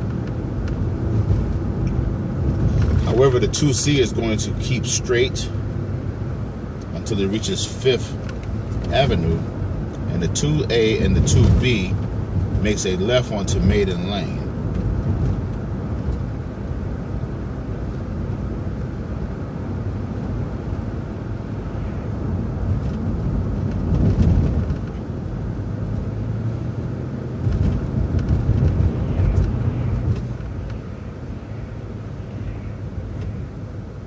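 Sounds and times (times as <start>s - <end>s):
bus engine droning: 0.0s - 34.0s
tyre and road noise: 0.0s - 34.0s.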